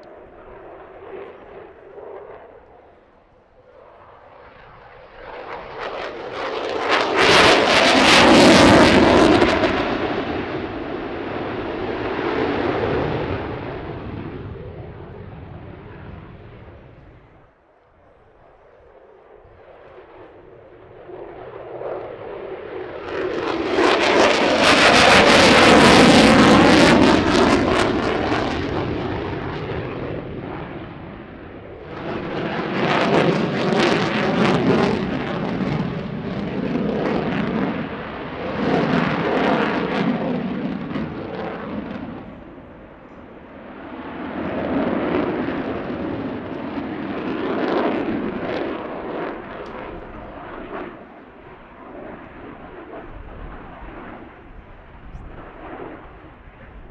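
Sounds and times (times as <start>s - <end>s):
jet aircraft roar: 0.0s - 56.9s.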